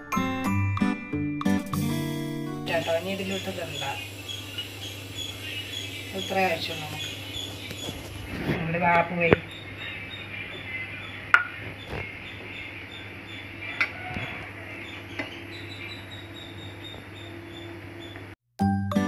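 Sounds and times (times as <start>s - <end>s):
steady low hum: 2.7s - 18.4s.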